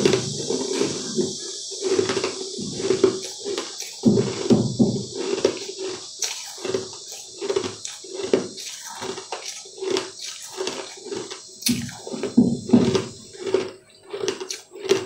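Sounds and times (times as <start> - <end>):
chewing candy: 1.6 - 15.0.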